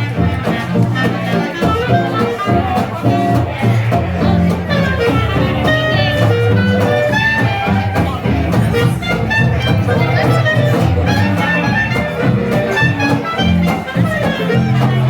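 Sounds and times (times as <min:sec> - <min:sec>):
fiddle melody: 0:00.0 - 0:15.0
strummed rhythm guitar: 0:00.0 - 0:15.0
swing jazz band playing: 0:00.0 - 0:15.0.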